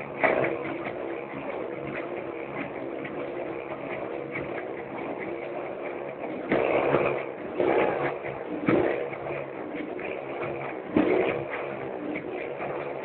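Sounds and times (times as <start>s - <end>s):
motorbike engines revving: 0.0s - 13.0s.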